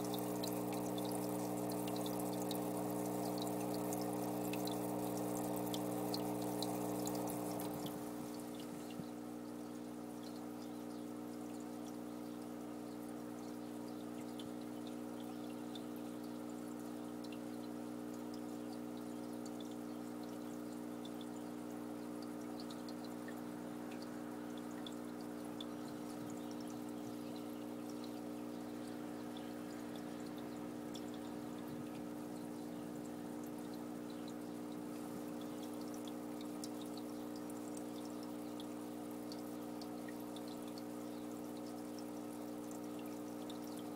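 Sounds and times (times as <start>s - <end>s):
aquarium filter humming: 0.0s - 43.9s
tiny water drips: 0.0s - 43.9s
water trickling: 0.0s - 43.9s.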